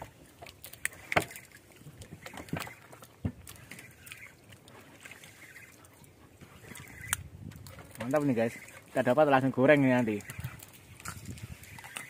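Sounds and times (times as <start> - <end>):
small waves lapping against hull: 0.0 - 12.0.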